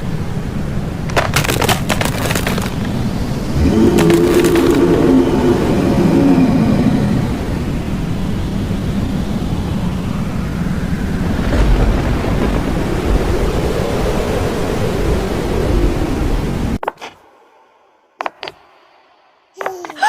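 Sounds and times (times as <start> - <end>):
rushing wind: 0.0 - 19.5
deep rumble: 0.1 - 16.8.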